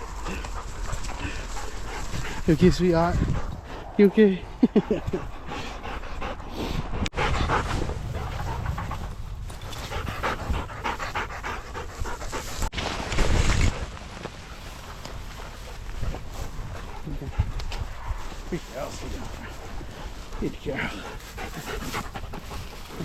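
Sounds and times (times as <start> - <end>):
dog panting: 0.0 - 12.7, 14.8 - 23.0
wind buffeting microphone: 0.0 - 12.7, 15.1 - 23.0.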